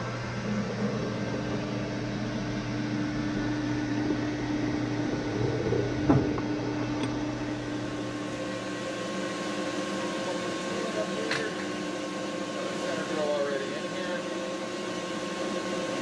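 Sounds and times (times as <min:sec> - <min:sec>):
metal lathe motor hum: 0:00.0 - 0:16.0.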